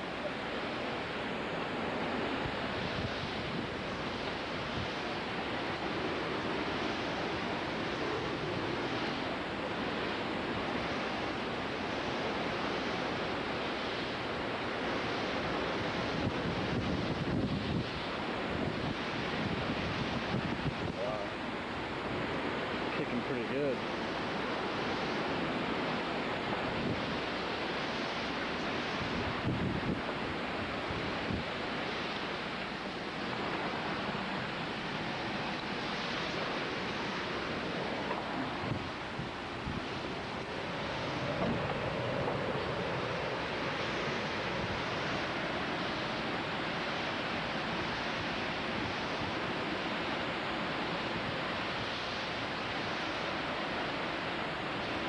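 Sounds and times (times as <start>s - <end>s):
roaring hurricane wind: 0.0s - 55.0s.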